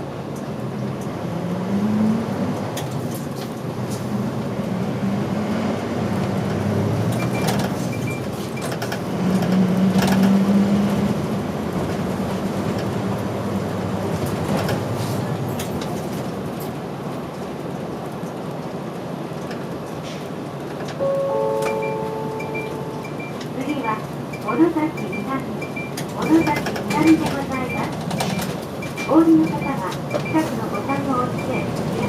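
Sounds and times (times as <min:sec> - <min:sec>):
bus diesel engine droning: 0:00.0 - 0:17.0, 0:20.0 - 0:32.0
road noise: 0:00.0 - 0:32.0.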